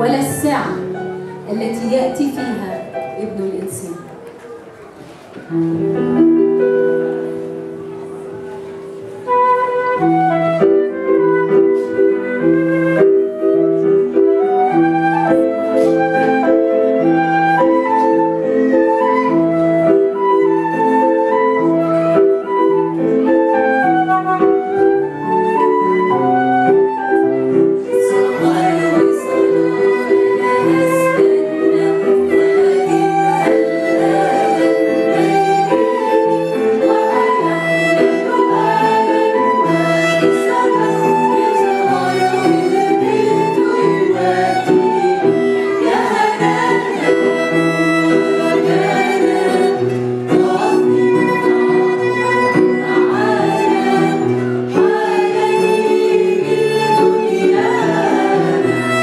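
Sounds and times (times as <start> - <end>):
flute melody: 0.0 - 3.3, 3.9 - 59.0.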